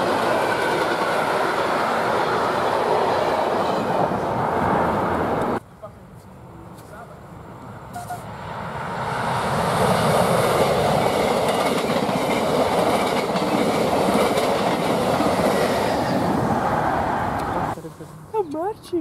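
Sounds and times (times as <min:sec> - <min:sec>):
train wheels rushing on rails: 0:00.0 - 0:05.6, 0:07.9 - 0:17.8.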